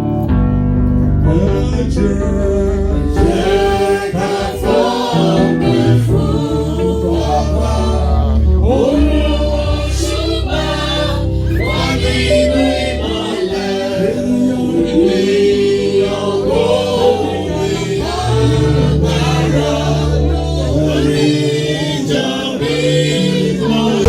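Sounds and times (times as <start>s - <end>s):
low bass accompaniment: 0.0s - 24.0s
choir singing gospel: 1.2s - 24.0s.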